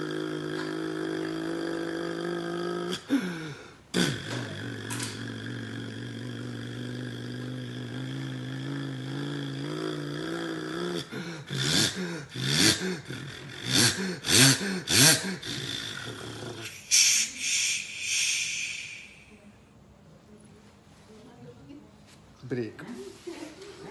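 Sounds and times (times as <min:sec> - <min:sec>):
man imitating bus engine: 0:00.0 - 0:19.3.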